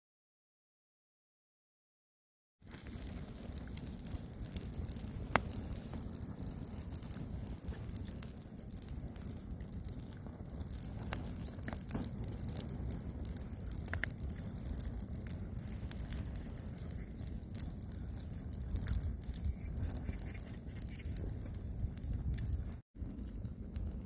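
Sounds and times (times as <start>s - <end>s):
campfire crackling and popping: 2.6s - 24.0s
low rumble of fire: 2.6s - 24.0s.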